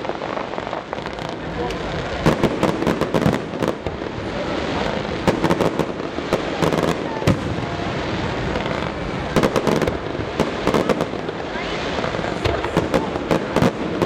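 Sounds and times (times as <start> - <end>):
fireworks rumble and crackle: 0.0 - 14.0.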